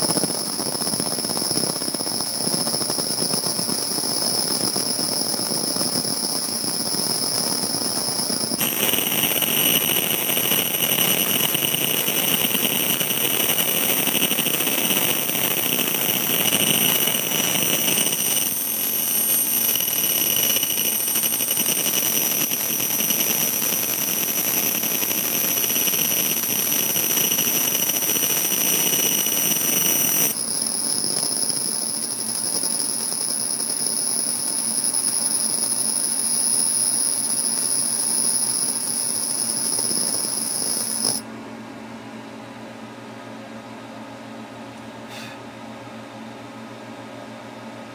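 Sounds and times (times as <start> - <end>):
high steady machine whines: 0.0 - 41.3.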